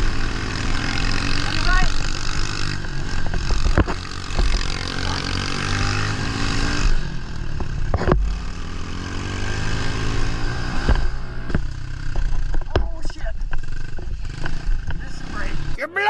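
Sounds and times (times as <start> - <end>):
small motorbike engine revving: 0.0 - 15.8.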